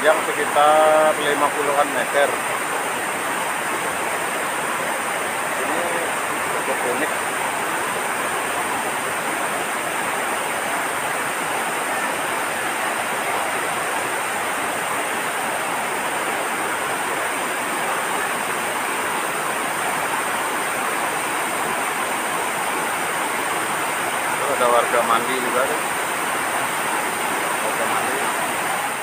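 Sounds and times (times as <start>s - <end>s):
small waterfall rushing: 0.0s - 29.0s.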